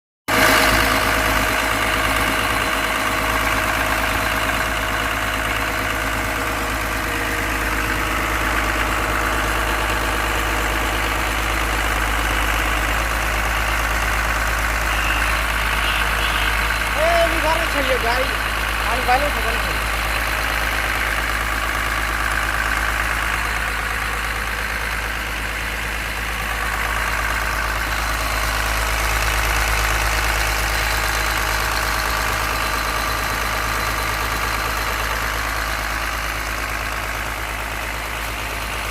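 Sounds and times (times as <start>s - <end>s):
diesel engine running: 0.3s - 38.9s.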